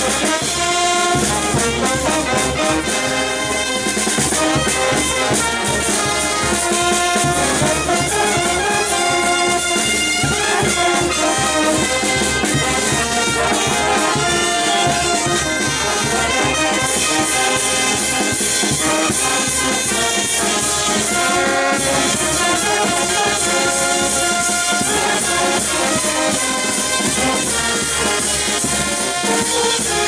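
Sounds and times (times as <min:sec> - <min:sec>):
brass band playing: 0:00.0 - 0:30.0
steady drum beat: 0:00.0 - 0:30.0.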